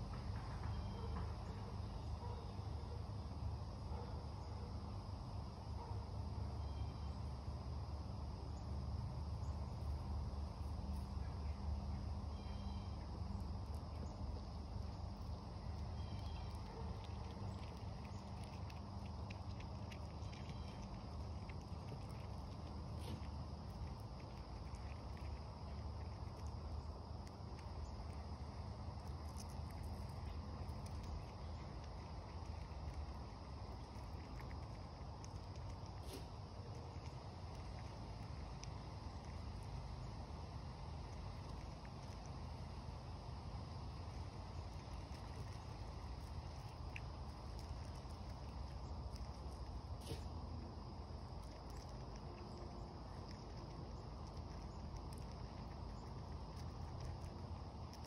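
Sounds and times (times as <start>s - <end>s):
high insect drone: 0.0s - 58.0s
low outdoor rumble: 0.0s - 58.0s
chipmunk nibbling seeds clicks: 8.6s - 58.0s.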